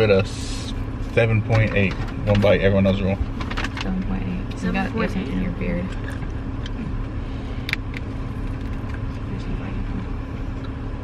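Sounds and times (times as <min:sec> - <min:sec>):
car engine hum inside cabin: 0:00.0 - 0:11.0.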